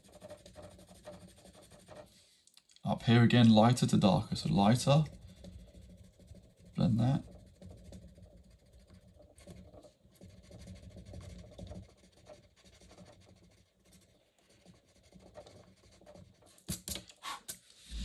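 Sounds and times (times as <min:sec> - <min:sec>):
pencil scratching on paper: 0:00.0 - 0:02.2, 0:03.1 - 0:16.7.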